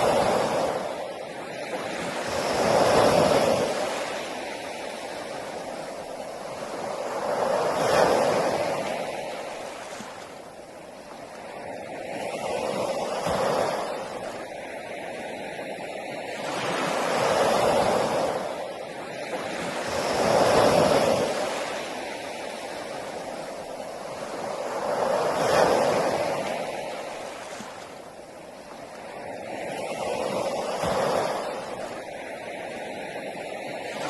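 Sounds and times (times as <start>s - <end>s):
ocean waves breaking: 0.0s - 34.0s.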